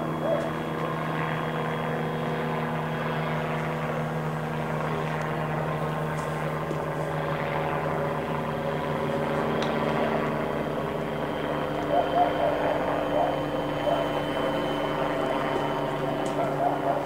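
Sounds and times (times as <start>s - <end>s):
aircraft engine droning overhead: 0.0s - 17.0s.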